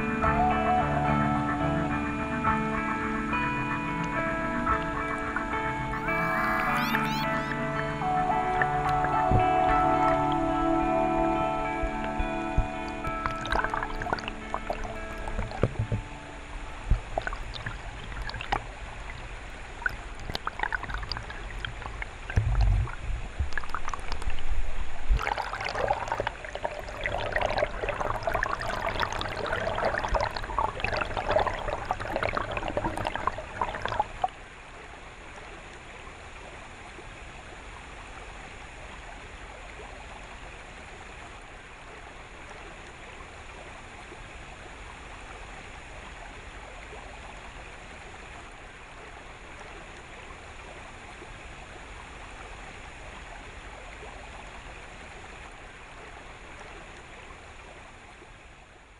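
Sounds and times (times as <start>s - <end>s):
flowing water rush: 0.0s - 58.6s
underwater stream gurgling: 0.0s - 58.9s.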